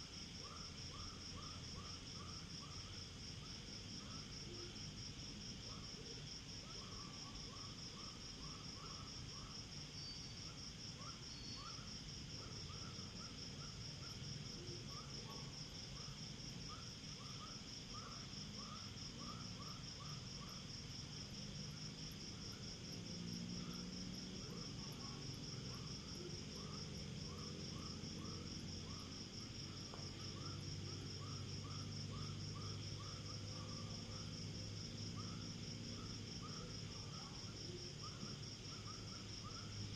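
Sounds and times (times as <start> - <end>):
crickets trilling: 0.0 - 39.9
low-pitched insect chirping: 0.0 - 39.9.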